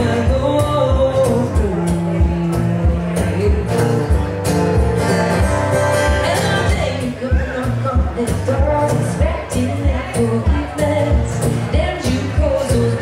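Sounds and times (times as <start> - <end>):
woman singing: 0.0 - 3.9, 5.8 - 13.0
acoustic guitar strumming: 0.0 - 13.0.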